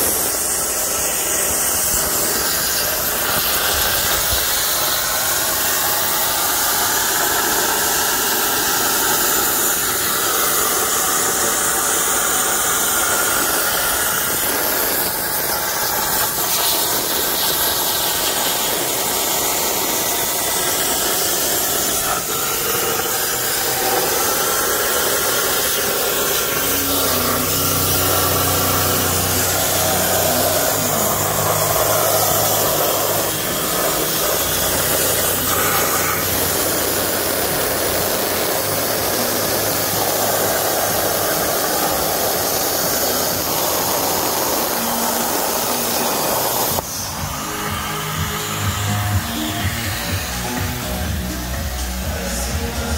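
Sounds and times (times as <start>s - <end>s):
plasma torch cutting steel: 0.0s - 52.9s.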